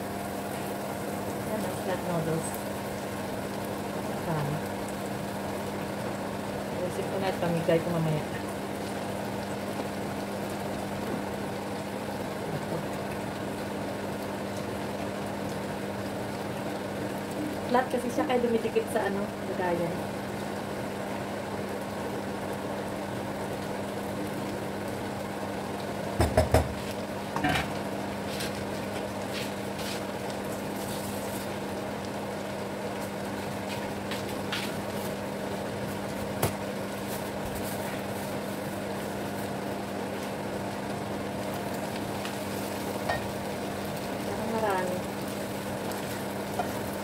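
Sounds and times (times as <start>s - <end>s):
noodles sizzling in pan: 0.0s - 47.0s.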